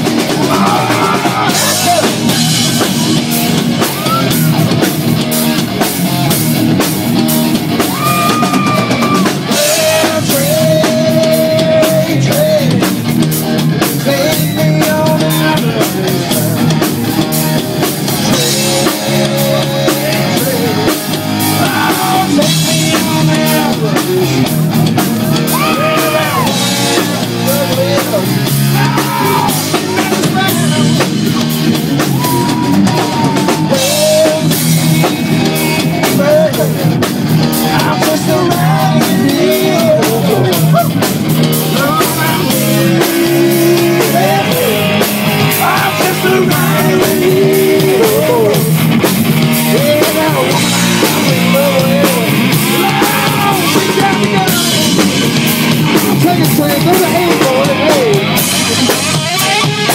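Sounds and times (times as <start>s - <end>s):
drum kit: 0.0s - 59.9s
electric guitar: 0.0s - 59.9s
person singing lead melody: 0.1s - 4.8s, 7.9s - 13.0s, 13.8s - 24.7s, 25.3s - 48.8s, 49.5s - 59.9s.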